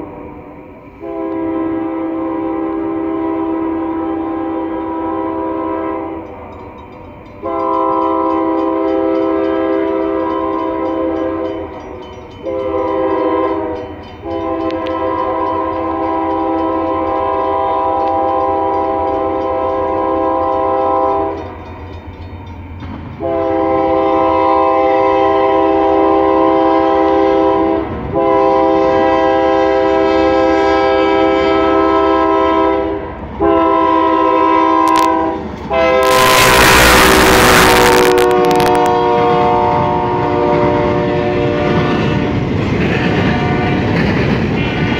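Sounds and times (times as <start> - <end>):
locomotive engine rumbling: 0.0 - 44.9
locomotive air horn blasts: 1.0 - 6.3, 7.4 - 11.6, 12.4 - 21.4, 23.2 - 42.5.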